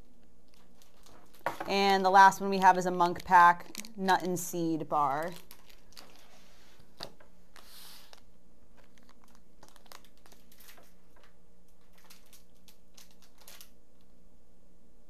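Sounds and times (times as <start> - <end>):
plastic wrapper crinkling: 0.0 - 14.1.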